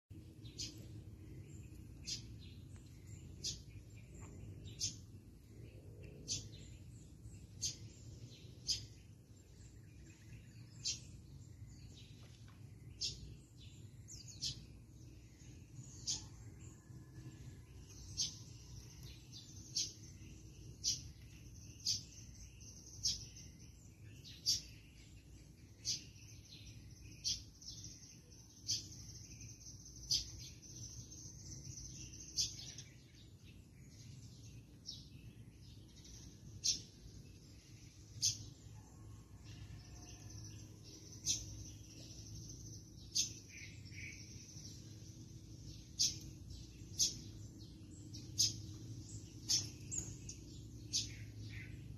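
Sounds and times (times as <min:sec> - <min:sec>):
small bird chirping: 0:00.1 - 0:51.9.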